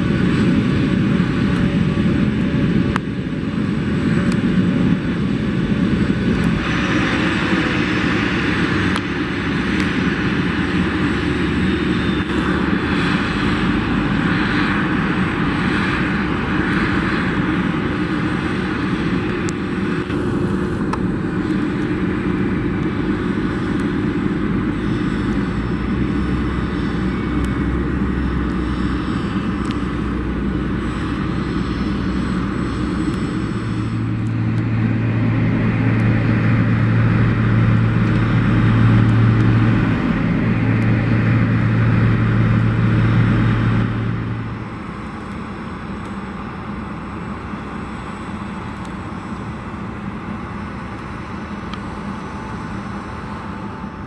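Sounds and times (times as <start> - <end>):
low steady hum: 0.0 - 54.0
motor vehicle engines: 0.0 - 54.0.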